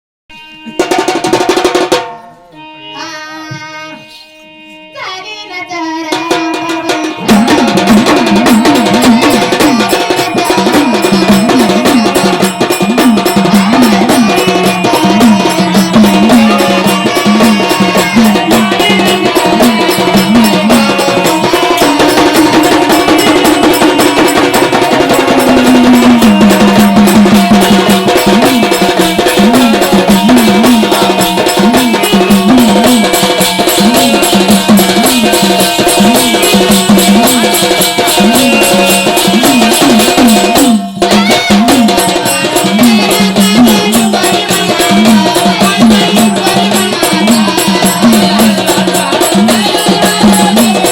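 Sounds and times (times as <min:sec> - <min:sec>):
held instrumental notes: 0:00.3 - 0:50.9
fast steady drumming: 0:00.6 - 0:02.2, 0:06.0 - 0:50.9.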